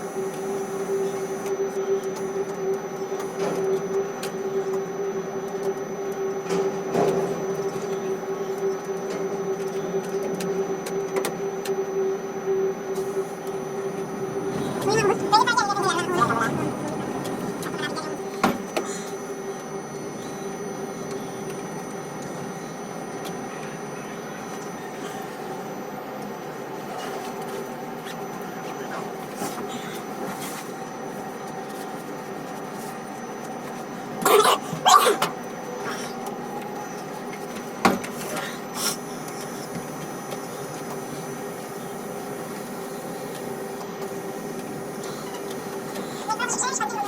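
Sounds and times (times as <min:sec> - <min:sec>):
machinery hum: 0:00.0 - 0:47.0.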